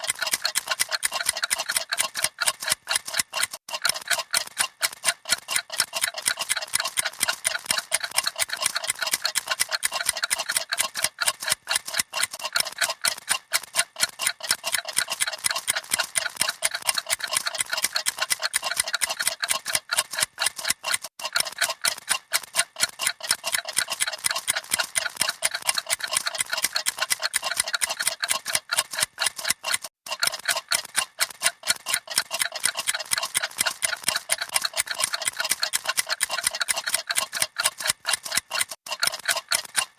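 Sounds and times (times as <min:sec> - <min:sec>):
clocks ticking: 0:00.0 - 0:39.9.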